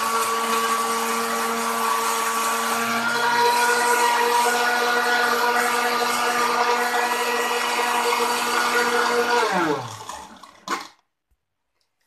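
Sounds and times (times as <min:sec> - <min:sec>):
electric blender running: 0:00.0 - 0:11.0.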